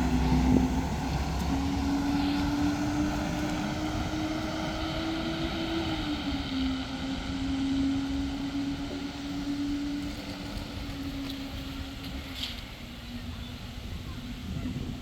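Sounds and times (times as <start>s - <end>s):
fire truck engine droning: 0.0s - 15.0s.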